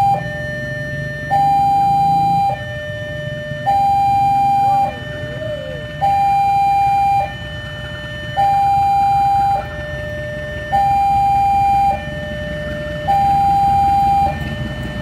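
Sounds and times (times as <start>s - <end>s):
electronic two-tone warning alarm: 0.0s - 15.0s.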